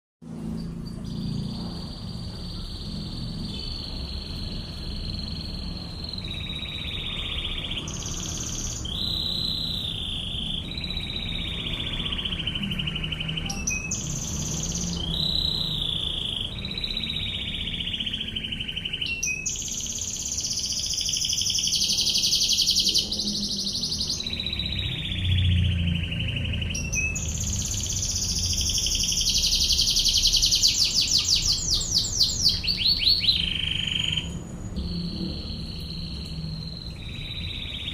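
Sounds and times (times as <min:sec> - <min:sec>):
canary singing trills: 0:00.2 - 0:37.9.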